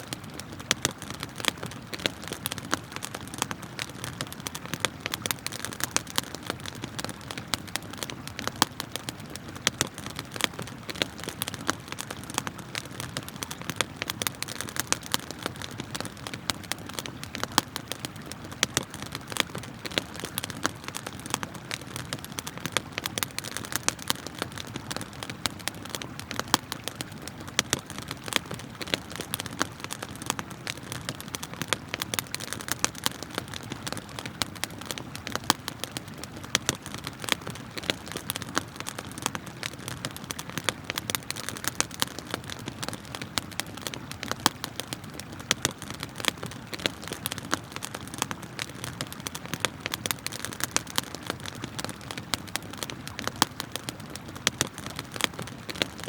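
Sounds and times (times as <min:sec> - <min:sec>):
flowing river water: 0:00.0 - 0:56.0
wood fire crackling and popping: 0:00.0 - 0:56.0.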